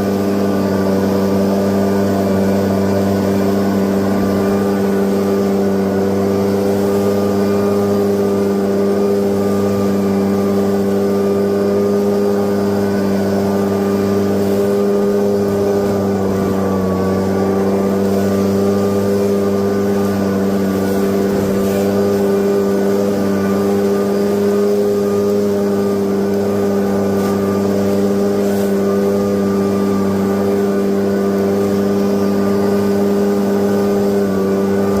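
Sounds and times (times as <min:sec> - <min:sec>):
leaf blower engine running: 0:00.0 - 0:35.0.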